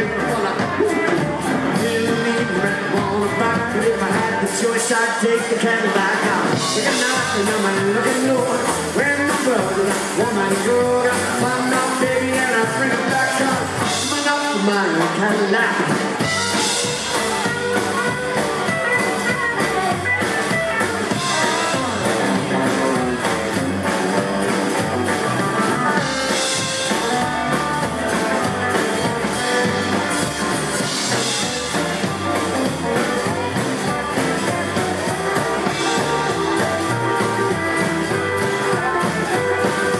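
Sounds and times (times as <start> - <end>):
rockabilly band playing: 0.0 - 39.9.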